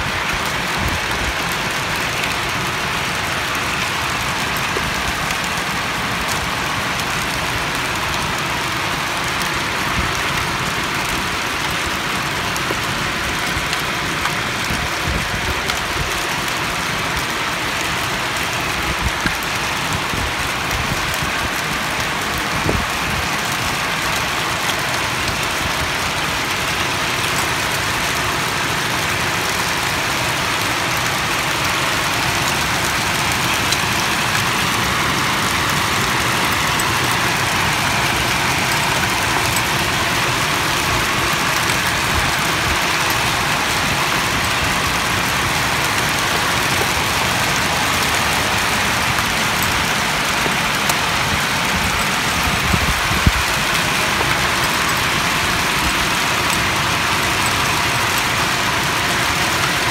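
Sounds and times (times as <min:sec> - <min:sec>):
heavy rain on roofs: 0:00.0 - 0:59.9.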